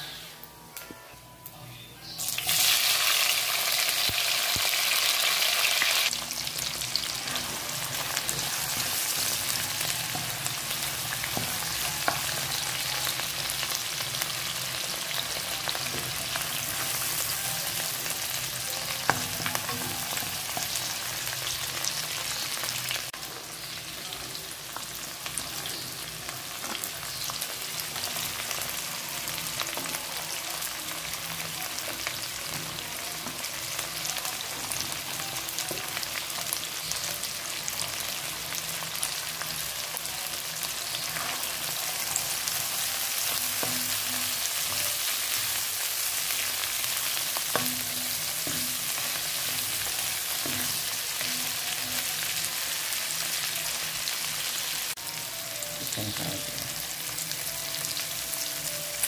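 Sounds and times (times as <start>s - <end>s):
food sizzling in oil: 2.1s - 59.0s.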